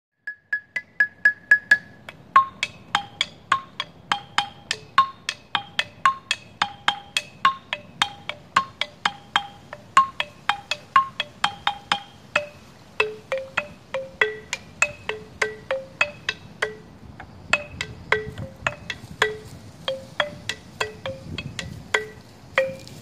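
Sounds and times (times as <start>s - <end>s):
xylophone struck with mallets: 0.3s - 23.0s.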